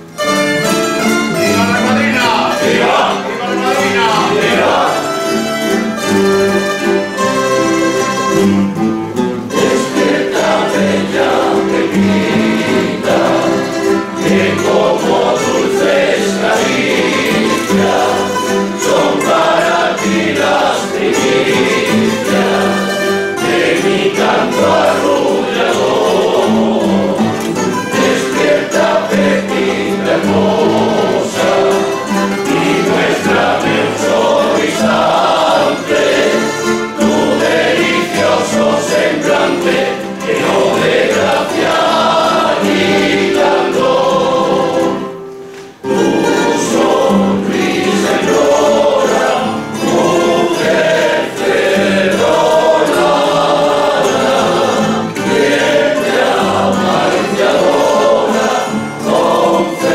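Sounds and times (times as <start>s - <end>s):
choir singing: 0.0s - 59.9s
plucked guitars: 0.0s - 59.9s.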